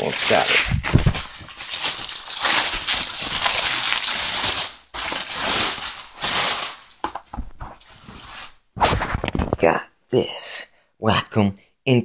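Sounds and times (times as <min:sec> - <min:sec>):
plastic packaging rustling: 0:00.0 - 0:09.6.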